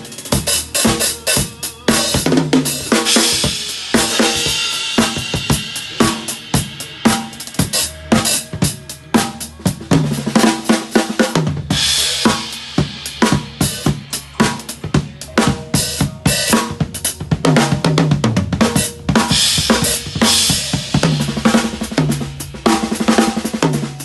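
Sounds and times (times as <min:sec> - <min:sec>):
snare and bass drum strokes: 0:00.0 - 0:24.0.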